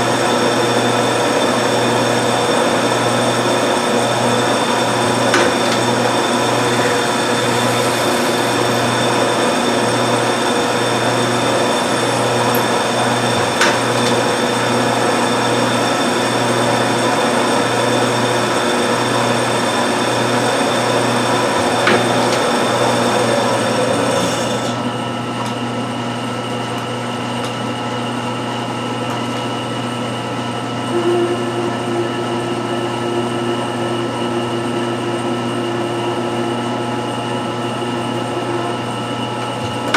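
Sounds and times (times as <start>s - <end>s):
steady machine tone: 0.0s - 24.5s, 30.5s - 39.9s
lathe machine hum: 0.0s - 39.9s.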